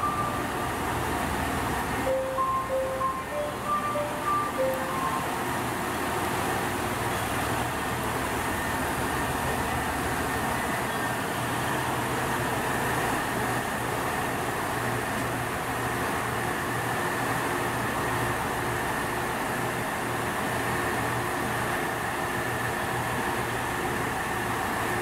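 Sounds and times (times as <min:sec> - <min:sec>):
diesel railcar engine idling: 0:00.0 - 0:25.0.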